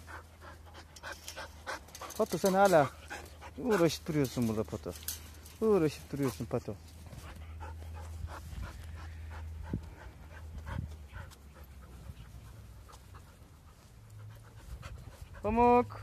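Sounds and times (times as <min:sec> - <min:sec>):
dog panting: 0:00.0 - 0:04.6, 0:07.1 - 0:16.0.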